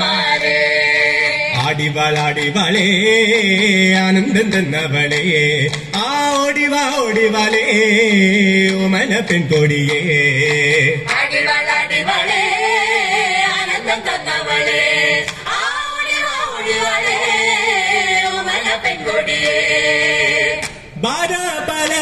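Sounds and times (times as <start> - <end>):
group singing folk song: 0.0 - 22.0.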